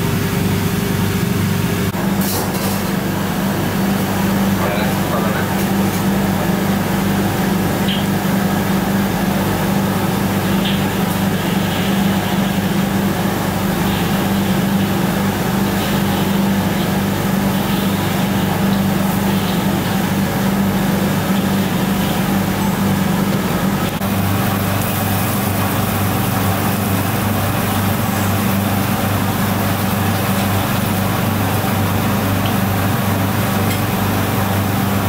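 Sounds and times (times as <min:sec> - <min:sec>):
kitchen machinery drone: 0:00.0 - 0:35.0.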